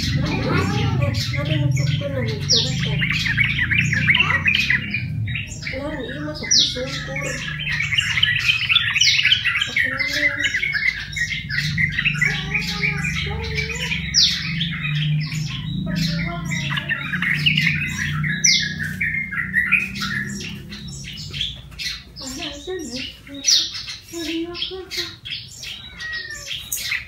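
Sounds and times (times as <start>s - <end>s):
bird chattering harsh calls: 0.0s - 27.0s.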